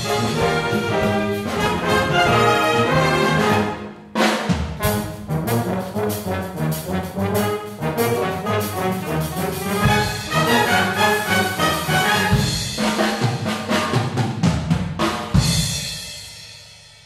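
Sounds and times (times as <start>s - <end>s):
trombones and trumpets: 0.0s - 14.2s
wind band playing latin music: 0.0s - 14.2s.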